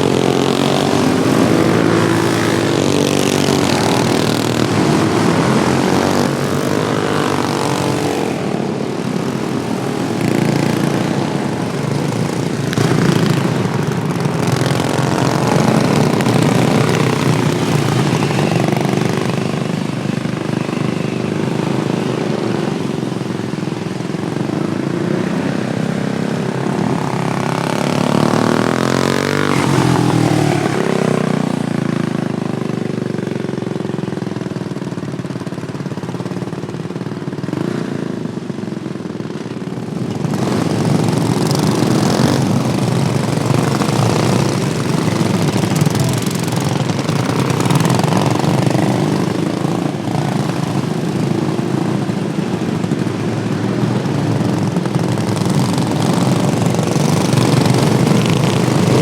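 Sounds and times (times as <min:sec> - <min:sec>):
racing lawnmower engines passing: 0:00.0 - 0:32.5, 0:39.8 - 0:59.0.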